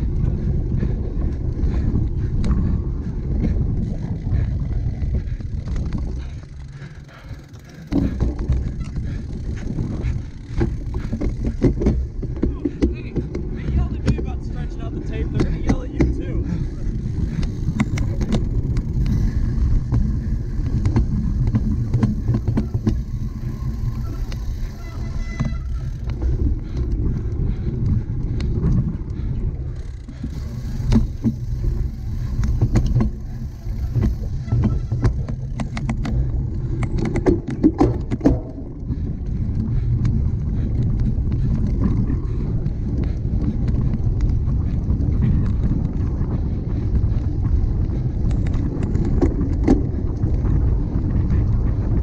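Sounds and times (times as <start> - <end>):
bicycle rattling clicks: 0.0 - 52.0
wind and rolling rumble: 0.0 - 52.0.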